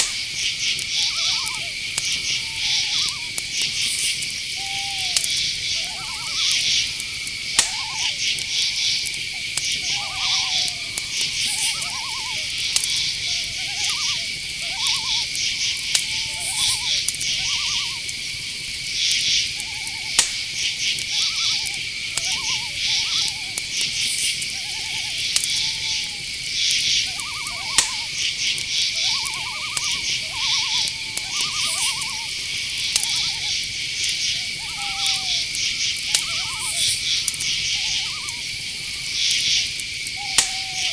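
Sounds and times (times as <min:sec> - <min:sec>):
crickets trilling: 0:00.0 - 0:40.9
rhythmic insect chirps: 0:00.0 - 0:40.9
rising and falling insect calls: 0:00.0 - 0:40.9.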